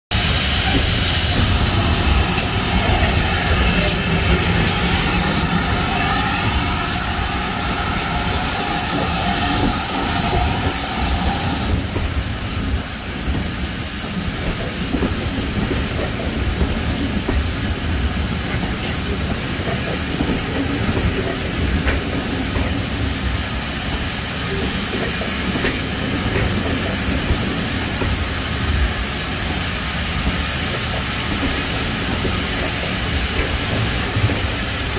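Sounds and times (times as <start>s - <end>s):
train coaches rumbling past: 0.1s - 34.9s.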